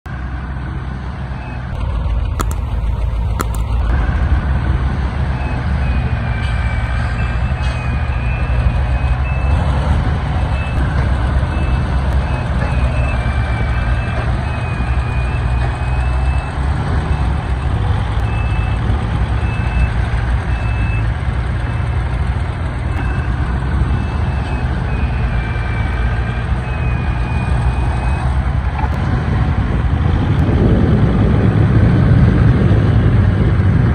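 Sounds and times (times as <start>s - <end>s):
diesel machinery running: 0.1s - 33.9s.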